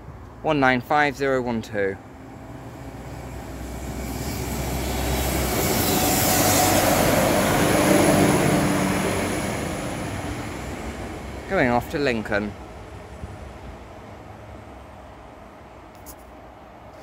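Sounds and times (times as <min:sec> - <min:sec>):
diesel train passing: 0:00.0 - 0:16.9.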